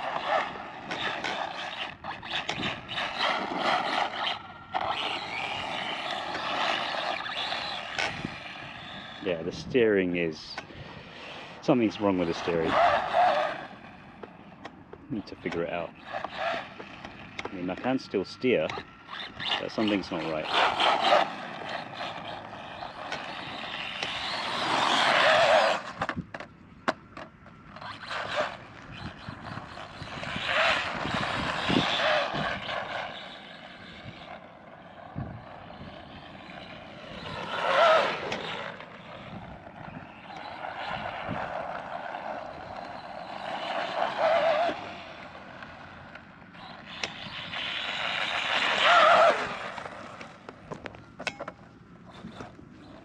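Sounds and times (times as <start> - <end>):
tyres scrabbling on dirt: 0.0 - 9.5, 11.7 - 53.0
electric motor whine: 0.0 - 53.0.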